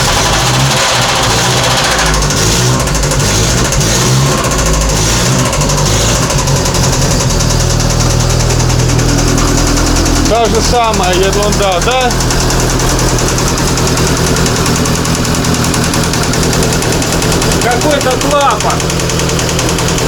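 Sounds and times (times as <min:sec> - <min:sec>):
car engine idling unevenly: 0:00.0 - 0:20.0
engine valve knocking: 0:00.0 - 0:20.0.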